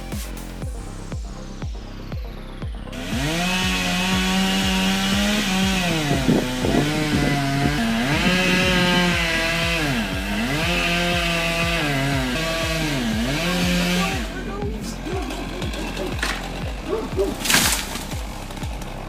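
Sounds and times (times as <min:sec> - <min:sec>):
chainsaw running at high revs: 0:00.0 - 0:19.0.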